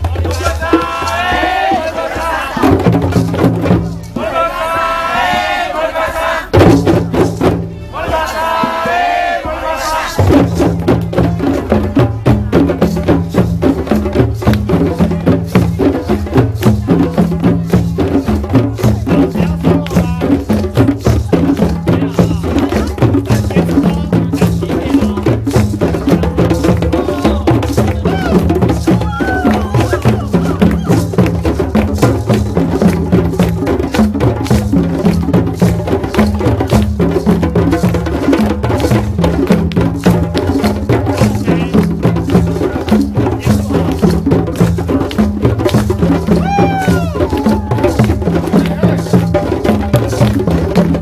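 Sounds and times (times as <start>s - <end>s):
hand drums playing fast rhythm: 0.0s - 4.6s, 6.5s - 51.0s.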